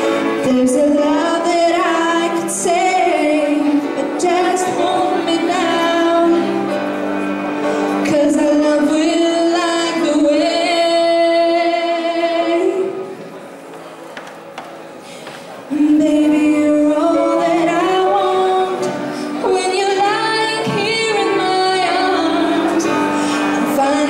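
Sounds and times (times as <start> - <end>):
girl singing into microphone: 0.0 - 13.2, 15.7 - 24.0
musical accompaniment: 0.0 - 24.0.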